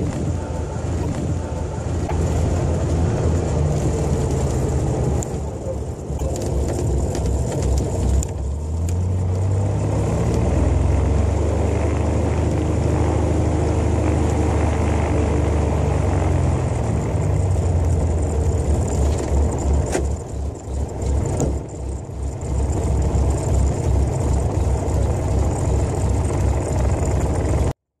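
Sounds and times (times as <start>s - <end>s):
propeller plane engine running: 0.0s - 27.8s.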